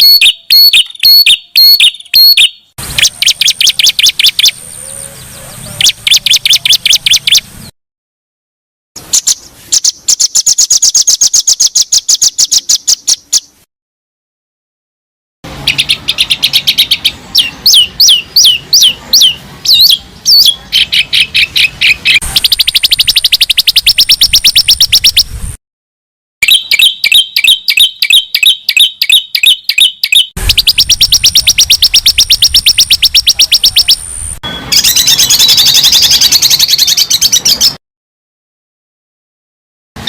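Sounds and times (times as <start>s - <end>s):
songbird chirps and trills: 0.0s - 7.7s, 9.0s - 13.6s, 15.5s - 25.3s, 26.4s - 37.8s
warbling birdsong: 0.0s - 7.7s, 9.0s - 13.7s, 15.5s - 25.3s, 26.4s - 37.8s.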